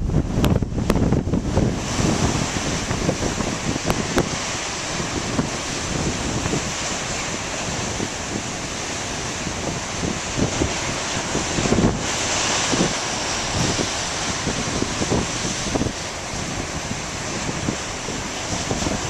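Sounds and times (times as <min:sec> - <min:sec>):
ocean waves breaking: 0:00.0 - 0:19.0
wind buffeting microphone: 0:00.0 - 0:19.0.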